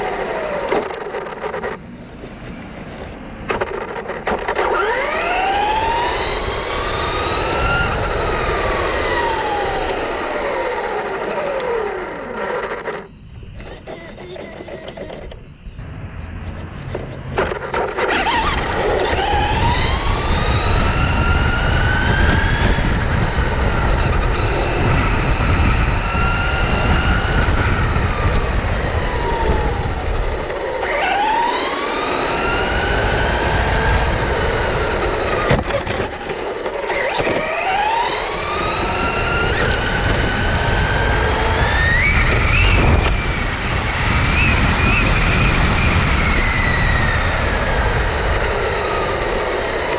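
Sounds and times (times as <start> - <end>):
tyre and wind noise: 0.0 - 49.9
electric motor whining: 3.5 - 15.6, 16.3 - 49.9.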